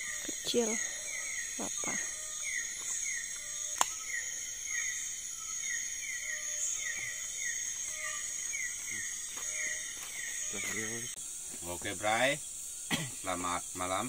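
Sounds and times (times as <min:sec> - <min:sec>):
insect drone: 0:00.0 - 0:14.0
insect falling chirp: 0:01.5 - 0:13.4.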